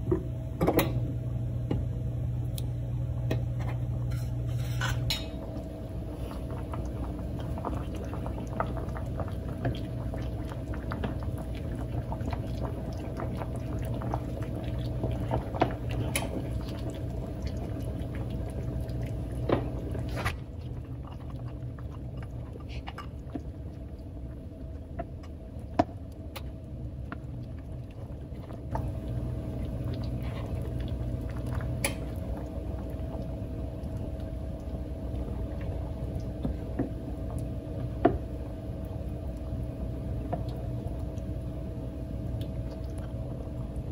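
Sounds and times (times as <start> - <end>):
soup bubbling in a pot: 0.0 - 43.9
steady low hum: 0.0 - 43.9.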